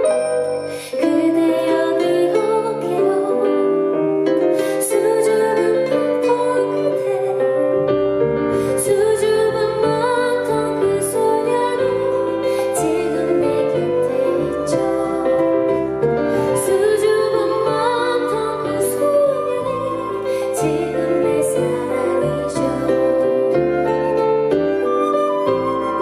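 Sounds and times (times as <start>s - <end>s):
piano: 0.0s - 26.0s
woman singing: 0.7s - 26.0s.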